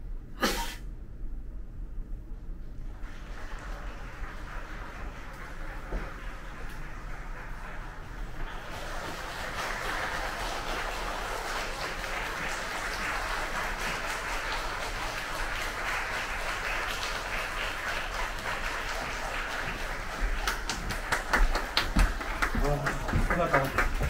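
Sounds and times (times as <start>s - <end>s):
audience applauding: 2.8s - 24.0s
closer louder claps: 2.9s - 24.0s.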